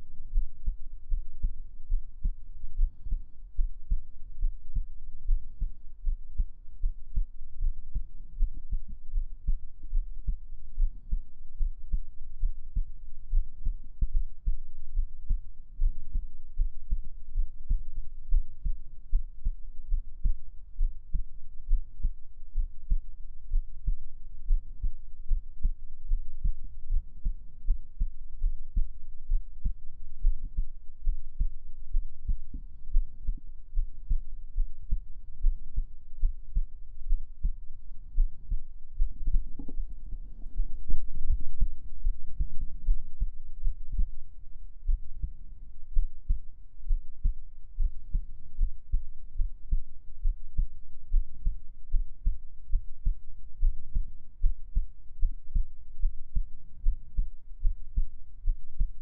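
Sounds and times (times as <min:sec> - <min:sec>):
heartbeat thumps: 0:00.1 - 0:59.0.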